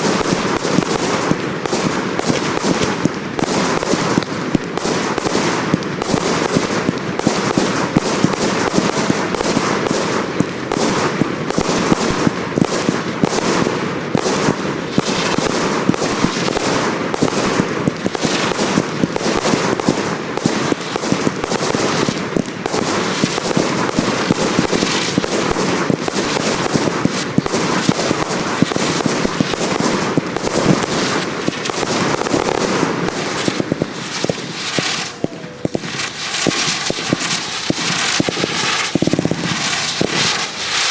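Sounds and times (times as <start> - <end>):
fireworks banging and crackling: 0.0 - 40.9.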